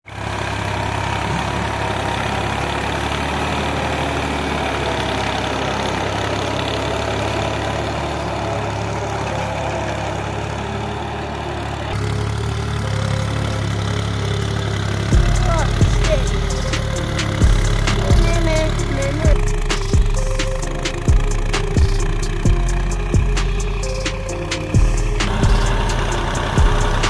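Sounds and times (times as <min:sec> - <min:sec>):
tractor engine humming: 0:00.0 - 0:27.0.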